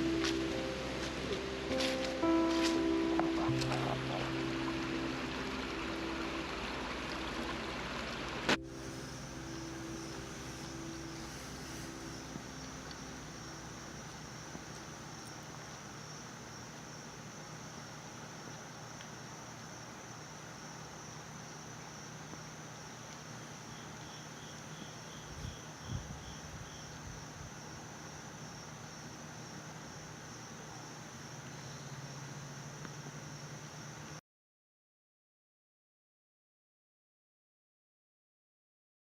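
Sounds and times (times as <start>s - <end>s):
background hiss: 0.0s - 34.2s
insect chorus drone: 0.0s - 34.2s.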